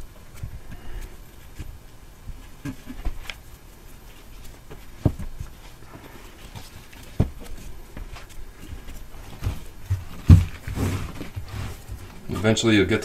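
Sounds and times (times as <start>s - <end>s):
rustling of wrap and gloves: 0.0s - 13.0s.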